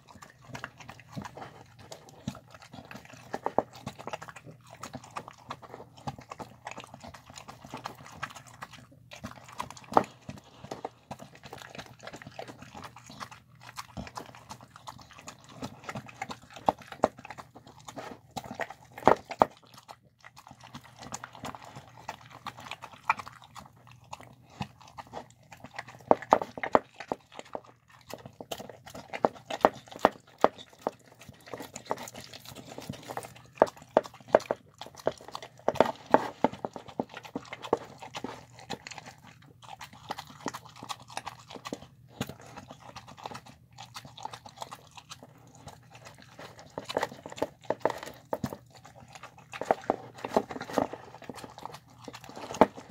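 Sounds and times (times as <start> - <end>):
dog chewing food: 0.0 - 52.9.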